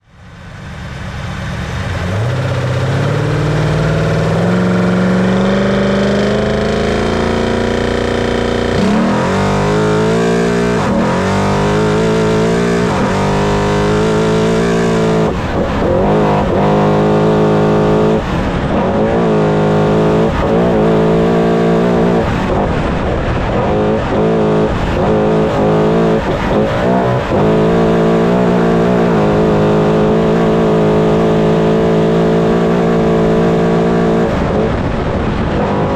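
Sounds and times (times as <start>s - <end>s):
race truck engine revving: 0.5s - 35.9s.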